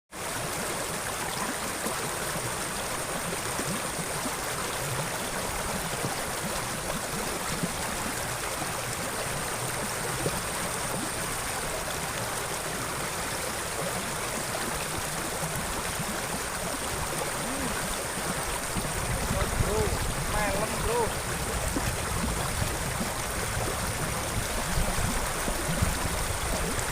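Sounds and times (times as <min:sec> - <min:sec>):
water flowing in a ditch: 0:00.1 - 0:26.9.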